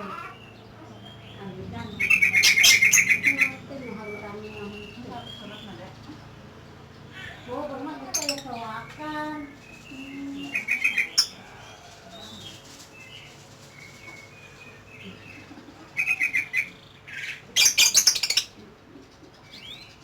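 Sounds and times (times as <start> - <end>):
lovebird chirping: 0.0 - 11.6, 13.0 - 18.6.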